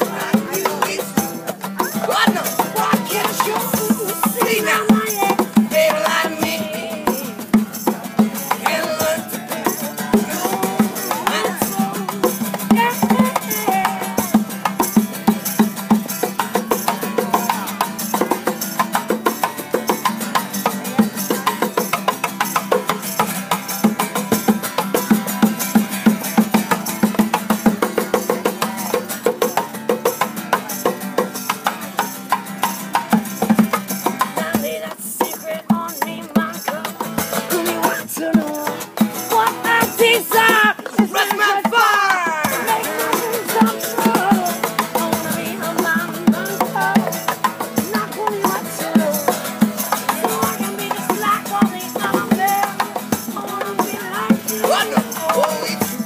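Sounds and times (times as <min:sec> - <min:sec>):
music with rattling percussion: 0:00.0 - 0:56.0.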